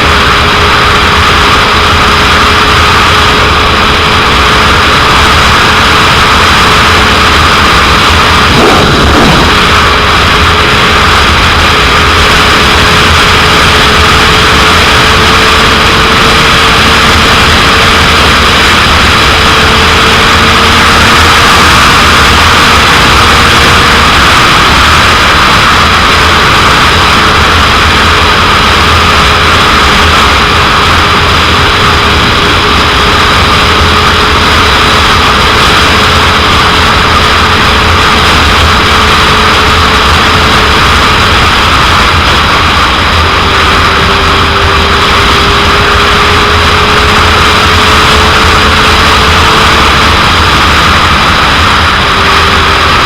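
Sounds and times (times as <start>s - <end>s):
heavy wind noise on microphone: 0.0s - 53.0s
motorcycle engine: 0.0s - 53.0s.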